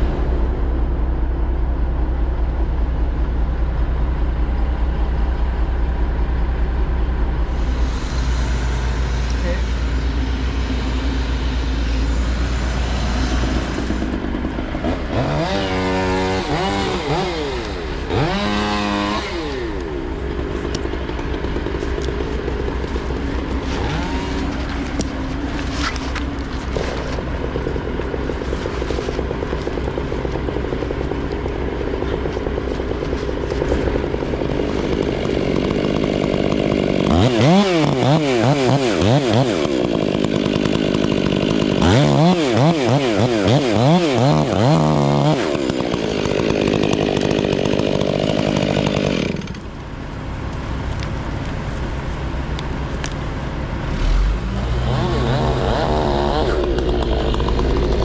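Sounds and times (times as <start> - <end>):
engine drone: 0.0 - 58.0
chainsaw revving: 7.5 - 51.1, 52.5 - 58.0.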